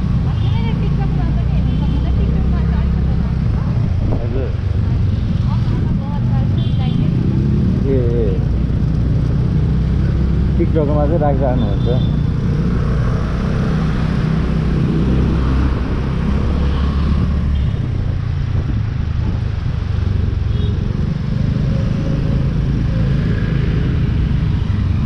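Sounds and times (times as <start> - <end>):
surrounding traffic: 0.0 - 25.0
wind and road rumble: 0.0 - 25.0.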